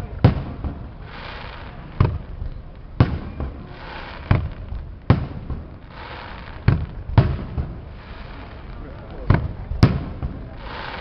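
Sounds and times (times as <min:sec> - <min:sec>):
firework bangs: 0:00.0 - 0:11.0
firework hiss: 0:00.0 - 0:11.0.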